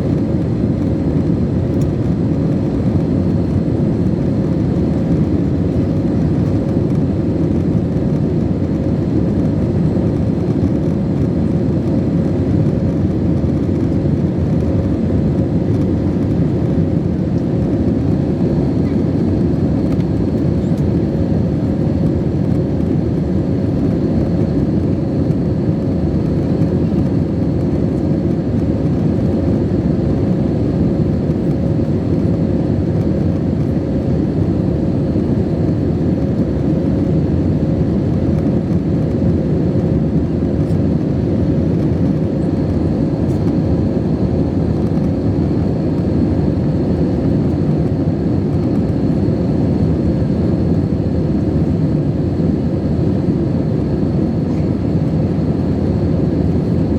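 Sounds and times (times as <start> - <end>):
airplane cabin drone: 0.0 - 56.9
faint steady whine: 0.0 - 56.9.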